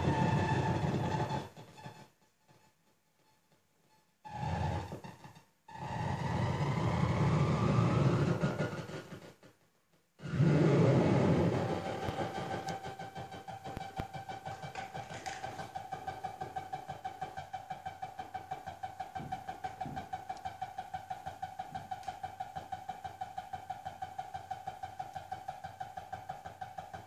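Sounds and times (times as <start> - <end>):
pulsing electronic drone: 0.0 - 1.5, 4.3 - 9.0, 10.2 - 27.0.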